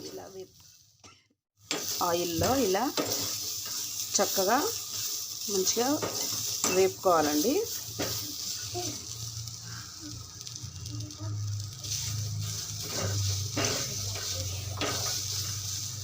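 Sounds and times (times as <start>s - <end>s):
corn sizzling in a pan: 0.0s - 1.0s, 1.6s - 16.0s.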